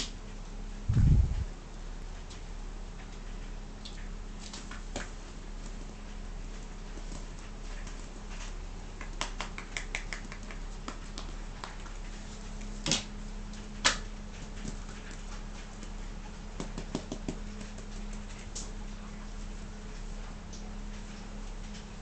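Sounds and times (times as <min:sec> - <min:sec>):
kitten paws tapping and scratching: 0:02.1 - 0:22.0.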